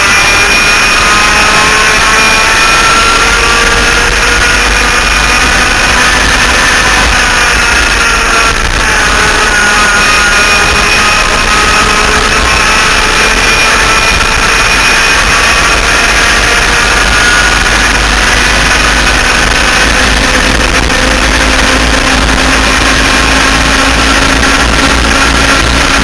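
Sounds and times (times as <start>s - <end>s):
two-stroke kart engines revving: 0.0s - 26.0s
wind rushing on microphone: 0.0s - 26.0s.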